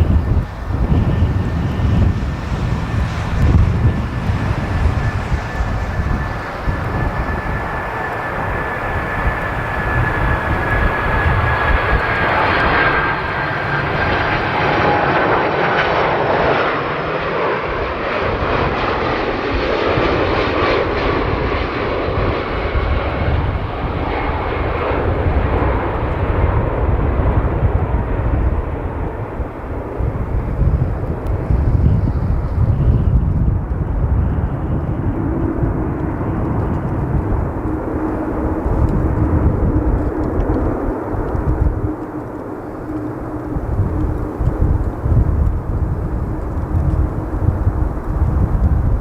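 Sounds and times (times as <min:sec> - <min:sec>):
jet engines whining: 0:00.0 - 0:49.0.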